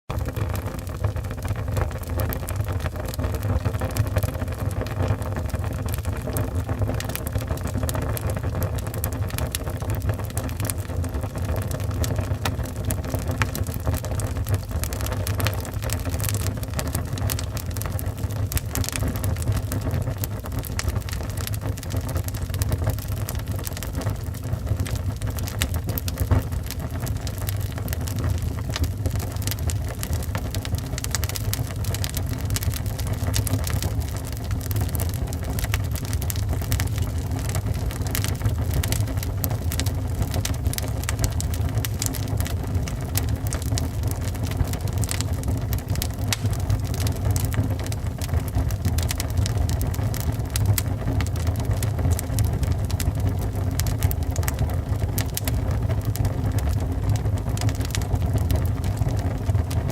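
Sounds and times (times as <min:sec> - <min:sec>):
burning wood crackling and popping: 0:00.1 - 0:59.9
low roar of flames: 0:00.1 - 0:59.9.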